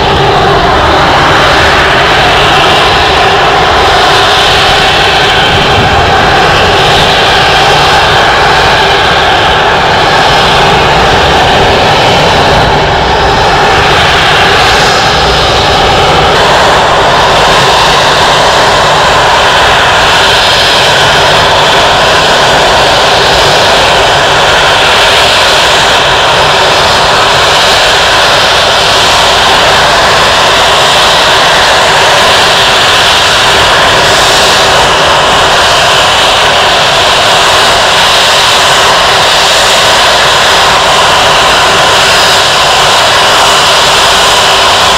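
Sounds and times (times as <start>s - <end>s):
jet engine whine: 0.0s - 44.9s.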